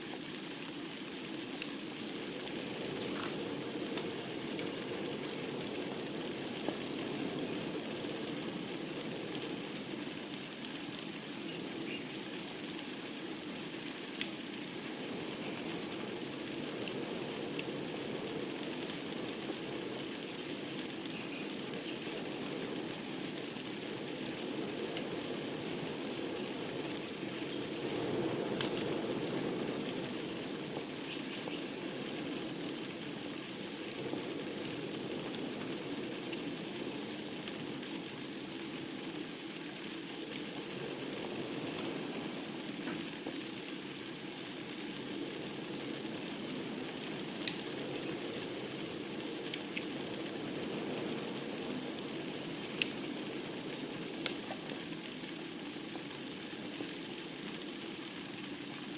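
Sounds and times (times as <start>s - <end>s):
burning logs crackling and popping: 0.0s - 58.9s
low rush of flames: 0.0s - 58.9s.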